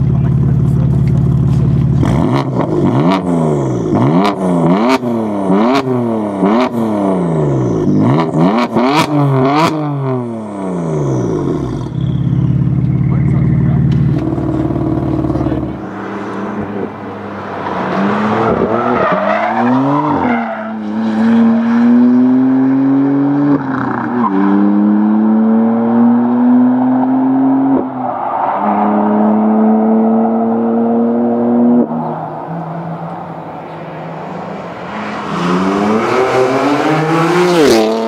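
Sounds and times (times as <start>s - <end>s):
car engine accelerating through gears: 0.4s - 33.4s, 34.5s - 38.0s.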